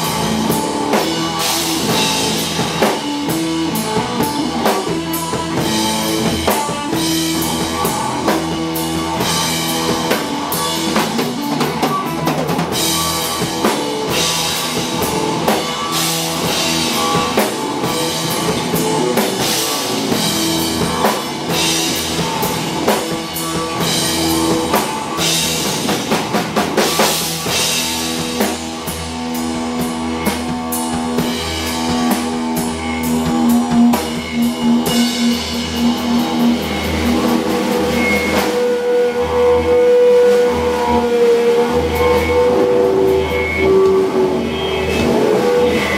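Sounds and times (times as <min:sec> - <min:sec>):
bass guitar: 0:00.0 - 0:45.9
distorted electric guitar: 0:00.0 - 0:45.9
drum kit: 0:00.0 - 0:45.9.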